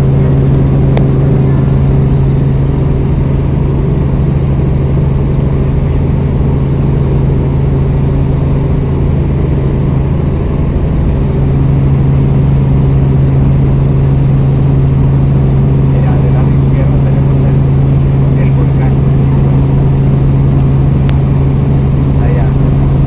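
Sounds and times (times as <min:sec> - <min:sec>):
helicopter drone: 0:00.0 - 0:23.0.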